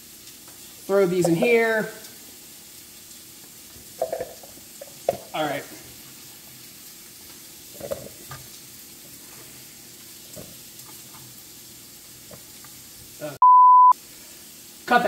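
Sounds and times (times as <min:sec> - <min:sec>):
vegetables sizzling in a pan: 0:00.0 - 0:13.4, 0:14.0 - 0:15.0.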